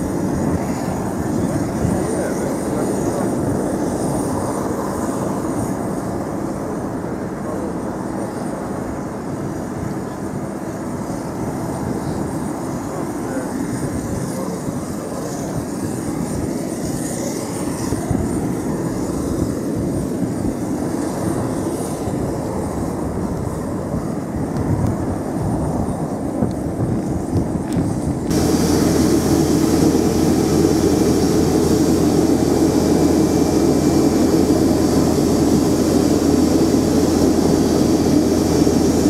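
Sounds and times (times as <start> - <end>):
aircraft pushback rumble: 0.0 - 8.6, 9.6 - 39.0.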